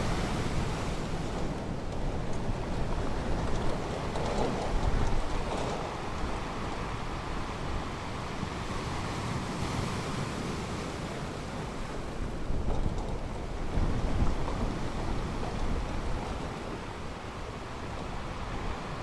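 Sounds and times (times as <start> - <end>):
ocean waves washing onto beach: 0.0 - 19.0
wind rumble on microphone: 0.0 - 19.0.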